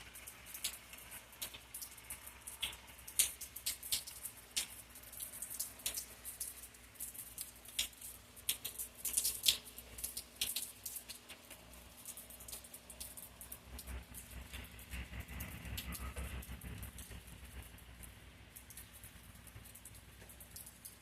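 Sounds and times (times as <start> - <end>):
raindrops pattering: 0.0 - 21.0.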